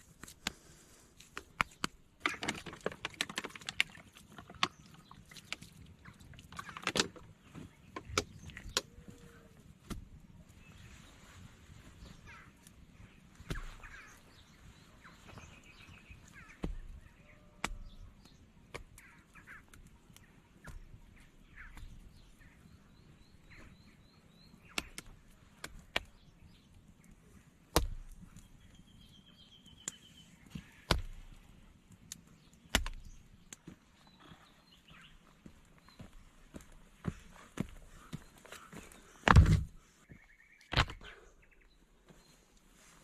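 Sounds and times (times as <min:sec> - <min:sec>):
birds chirping and trilling: 0:03.8 - 0:43.0.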